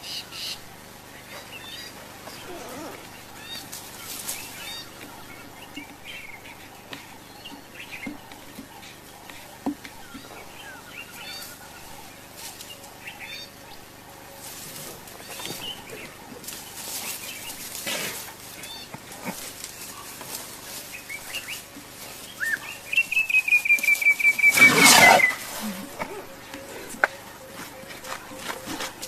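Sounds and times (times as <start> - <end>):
birds chirping: 0.0 - 29.0
steady outdoor hiss: 0.0 - 29.0
rustling: 1.3 - 29.0.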